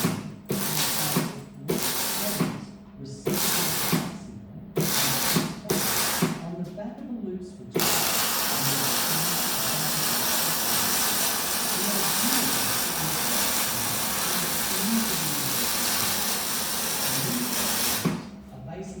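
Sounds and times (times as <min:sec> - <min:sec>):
arc welding crackling hiss: 0:00.0 - 0:02.6, 0:03.3 - 0:04.1, 0:04.8 - 0:06.4, 0:07.8 - 0:18.3.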